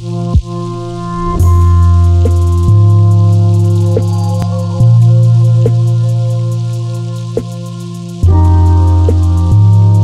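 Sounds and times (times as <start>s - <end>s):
ambient music with held chords: 0.0s - 10.0s.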